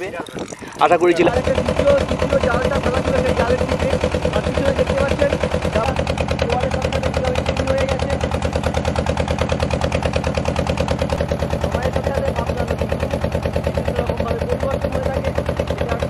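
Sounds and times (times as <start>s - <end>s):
boat engine chugging: 0.0s - 16.0s.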